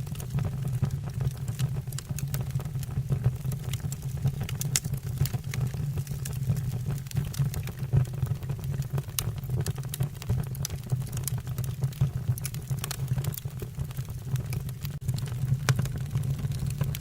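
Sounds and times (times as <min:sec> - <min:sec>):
fire crackling and snapping: 0:00.0 - 0:17.0
low rumble of flames: 0:00.0 - 0:17.0.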